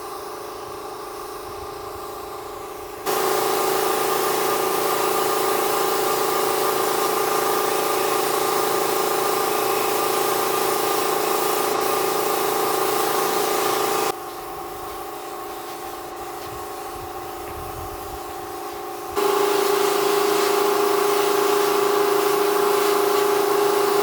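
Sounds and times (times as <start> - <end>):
machine motor humming: 0.0 - 17.6, 18.3 - 24.0.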